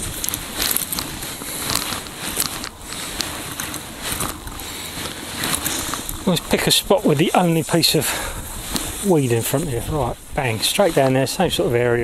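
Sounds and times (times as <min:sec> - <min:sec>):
rustling handling noise: 0:00.0 - 0:12.0.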